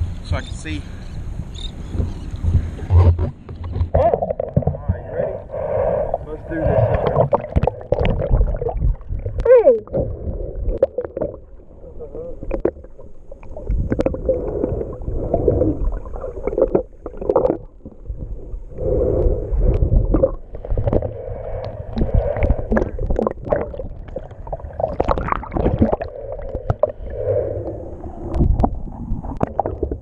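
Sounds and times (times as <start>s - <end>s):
underwater sloshing and gurgling: 1.2s - 30.0s.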